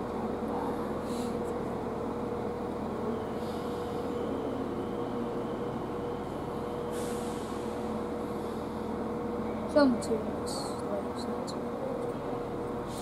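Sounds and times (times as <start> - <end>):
railway station hum: 0.0 - 13.0.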